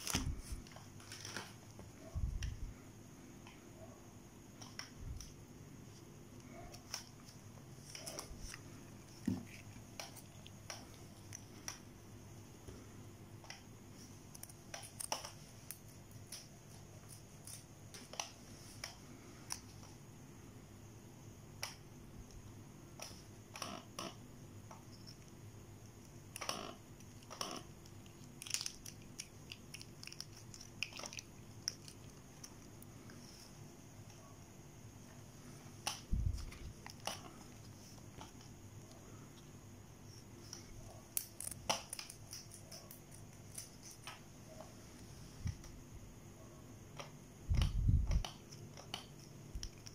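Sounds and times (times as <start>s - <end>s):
low steady hum: 0.0s - 49.9s.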